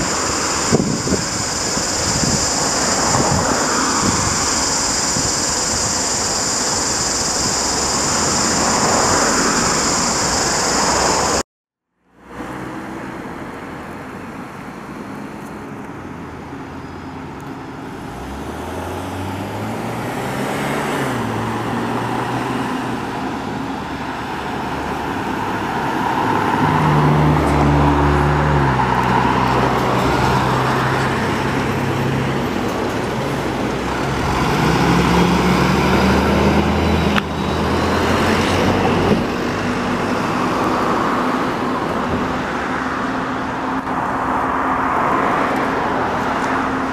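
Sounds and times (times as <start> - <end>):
fire truck diesel engines: 0.0 - 11.4, 12.0 - 46.9
tyre and road noise: 0.0 - 11.4, 12.0 - 46.9.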